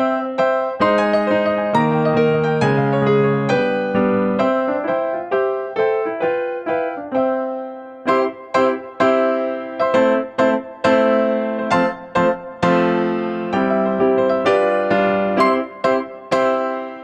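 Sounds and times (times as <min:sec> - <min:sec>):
keyboard piece: 0:00.0 - 0:17.0.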